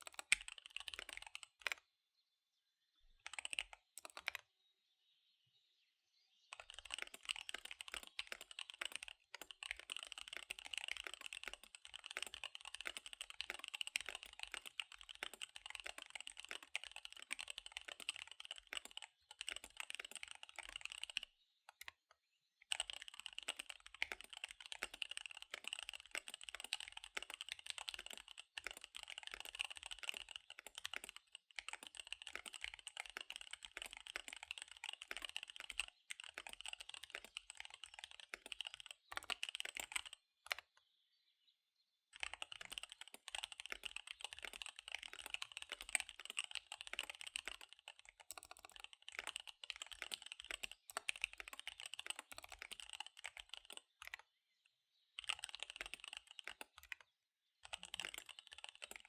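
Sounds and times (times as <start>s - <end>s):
mechanical keyboard typing: 0.0s - 1.8s, 3.2s - 4.4s, 6.5s - 22.0s, 22.7s - 40.7s, 42.1s - 54.2s, 55.2s - 59.0s.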